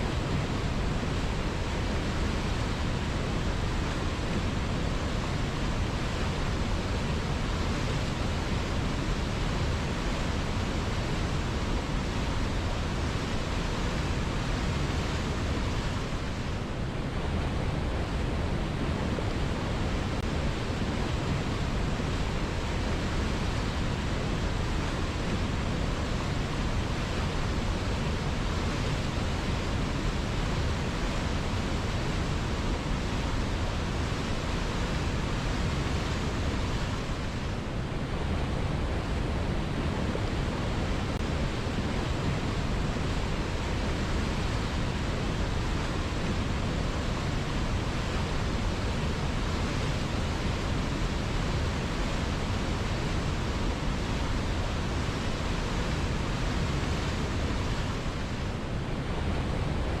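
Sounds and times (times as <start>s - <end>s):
river water rushing: 0.0s - 60.0s.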